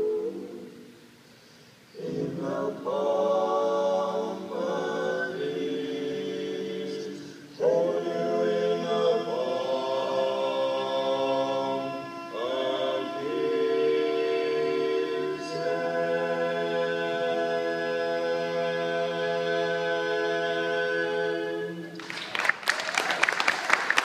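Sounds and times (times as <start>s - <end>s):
male vocal quartet singing: 1.9s - 21.9s.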